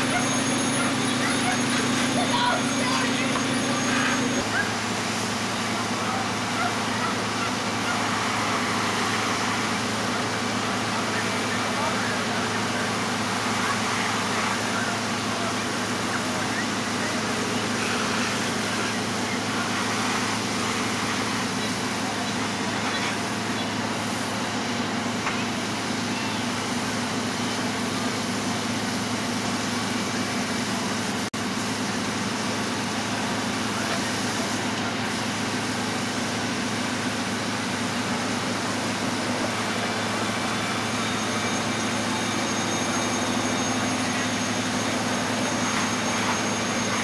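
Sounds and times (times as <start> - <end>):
fire engine drone: 0.0 - 47.0.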